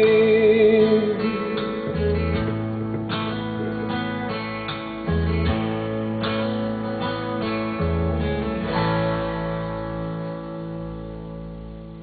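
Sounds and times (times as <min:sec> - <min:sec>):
bass line: 0:00.0 - 0:12.0
strummed acoustic guitar: 0:00.0 - 0:12.0.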